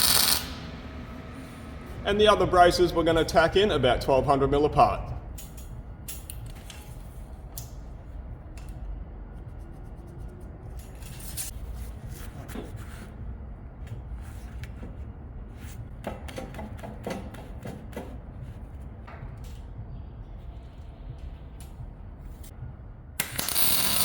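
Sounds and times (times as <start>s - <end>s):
low workshop rumble: 0.0s - 24.0s.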